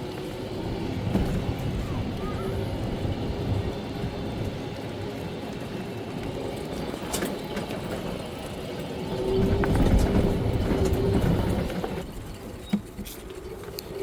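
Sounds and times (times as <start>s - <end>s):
vehicle low rumble: 0.0s - 14.0s.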